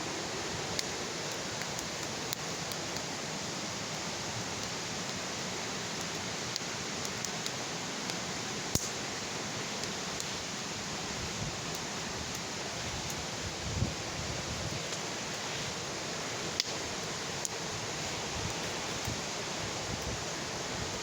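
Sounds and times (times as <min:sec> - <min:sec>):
bonfire rushing hiss: 0:00.0 - 0:21.0
fire crackling and popping: 0:00.0 - 0:21.0.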